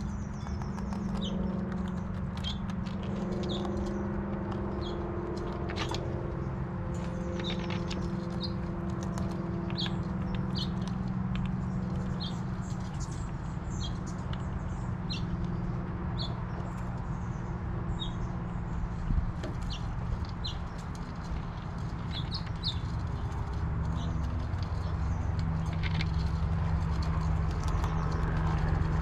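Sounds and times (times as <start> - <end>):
squirrels chewing nuts: 0.0 - 29.0
steady low hum: 0.0 - 29.0.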